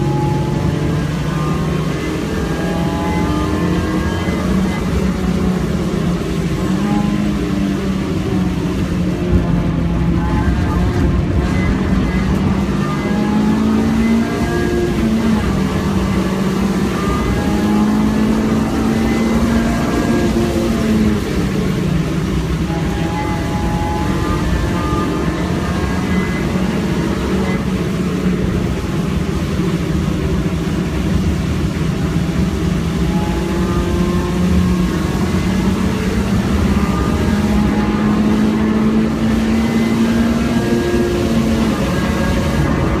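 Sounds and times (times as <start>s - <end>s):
car engine from inside cabin: 0.0s - 43.0s.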